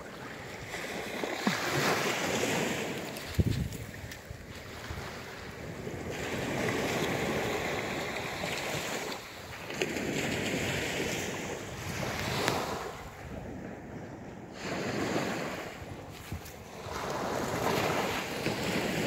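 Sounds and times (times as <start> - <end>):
sea waves breaking on beach: 0.0 - 19.0
wind on microphone: 0.0 - 19.0.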